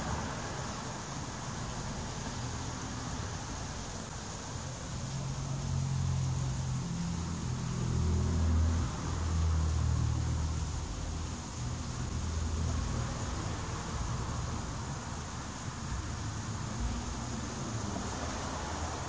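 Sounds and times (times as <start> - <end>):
outdoor hiss: 0.0 - 19.0
vehicle engine hum: 0.0 - 19.0.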